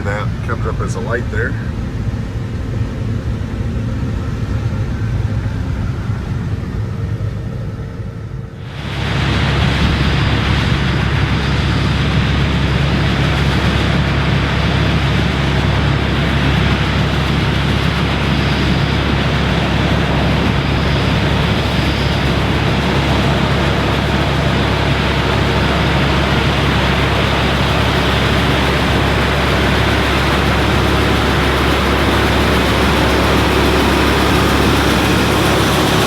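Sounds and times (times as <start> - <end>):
combine harvester engine and threshing: 0.0 - 36.0.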